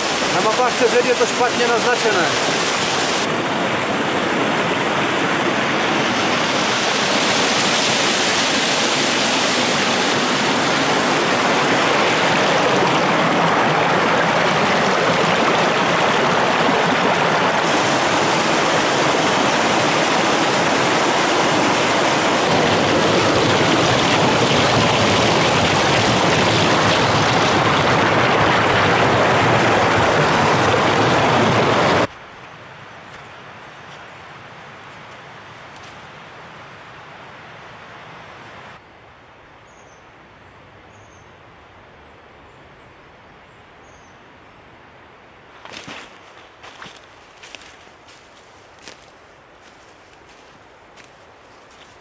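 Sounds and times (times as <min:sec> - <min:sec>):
stream and waterfall rushing: 0:00.0 - 0:38.8, 0:45.5 - 0:52.0.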